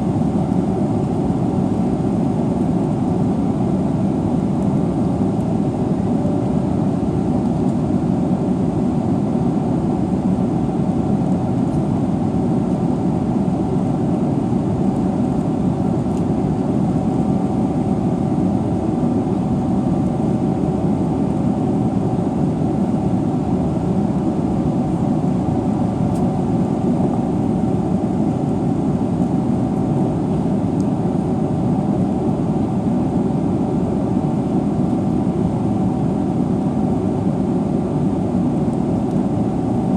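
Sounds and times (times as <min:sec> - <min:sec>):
faint steady whine: 0:00.0 - 0:39.9.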